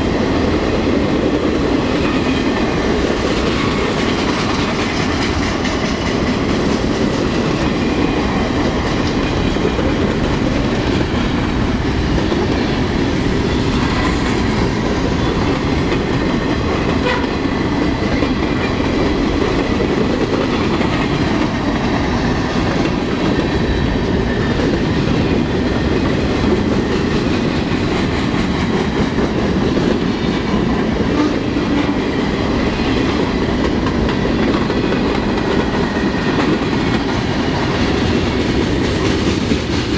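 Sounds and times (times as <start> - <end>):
train wheels rolling on track: 0.0 - 39.9.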